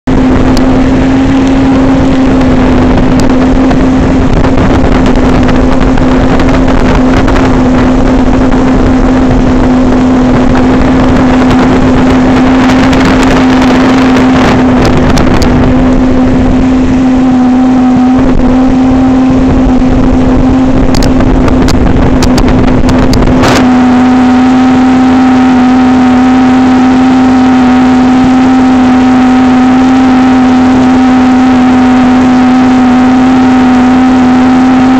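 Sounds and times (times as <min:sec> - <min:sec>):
motorboat engine running: 0:00.0 - 0:34.9
rushing wind and water: 0:00.0 - 0:34.9.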